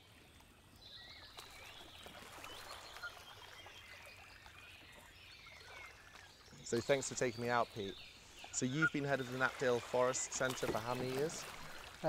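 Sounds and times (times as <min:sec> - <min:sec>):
small birds chirping: 0:00.7 - 0:12.0.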